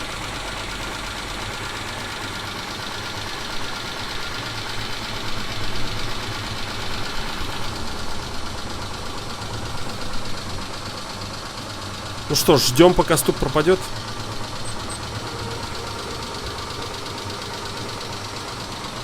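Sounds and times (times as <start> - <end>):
car engine idling: 0.0 - 19.0
engine knocking: 0.0 - 19.0.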